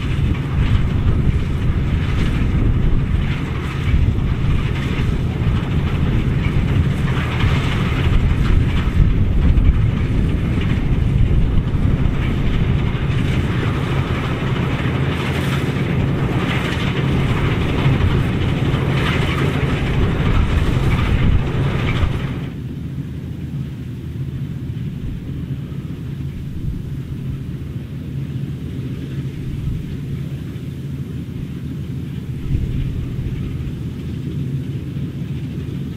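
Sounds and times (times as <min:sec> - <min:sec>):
combine harvester threshing: 0:00.0 - 0:35.9.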